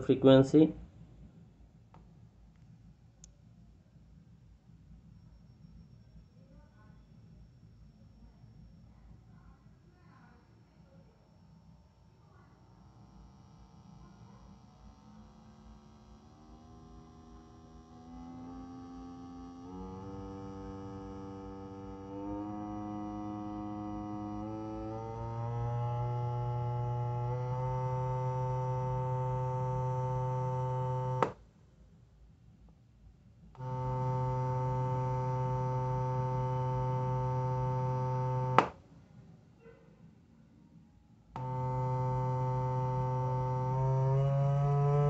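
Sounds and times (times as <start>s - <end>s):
low humming test tone: 0.0s - 31.6s, 32.6s - 39.3s, 40.7s - 45.0s.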